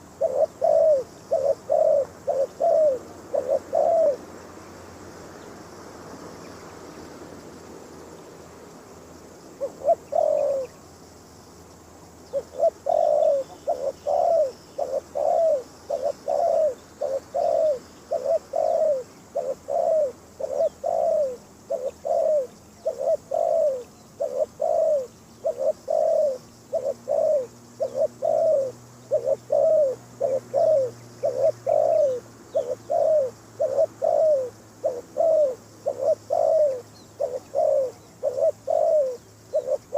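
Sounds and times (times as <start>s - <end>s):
dove cooing: 0.0s - 4.4s, 9.6s - 10.8s, 12.3s - 39.9s.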